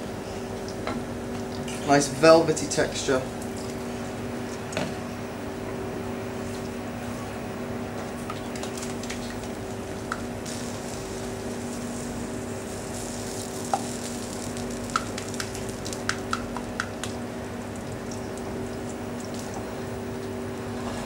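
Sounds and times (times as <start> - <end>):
steady hum and hiss: 0.0 - 21.0.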